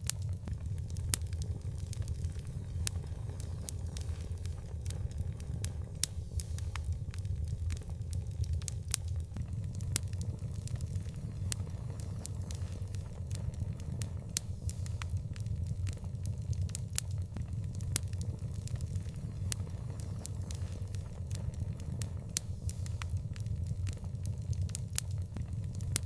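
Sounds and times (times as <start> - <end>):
fire crackling and popping: 0.0 - 26.0
low rumble of fire: 0.0 - 26.0.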